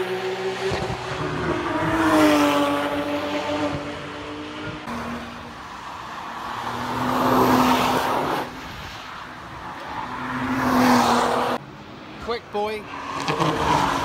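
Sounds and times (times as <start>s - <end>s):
cars passing at speed: 0.0s - 14.0s.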